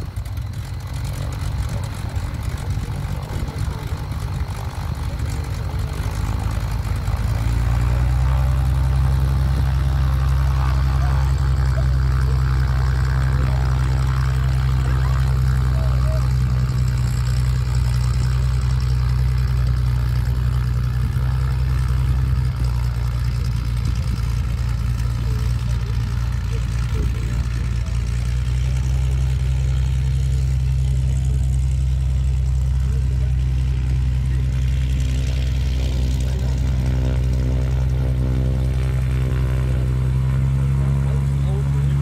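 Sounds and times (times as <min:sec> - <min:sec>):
engine idling: 0:00.0 - 0:42.0.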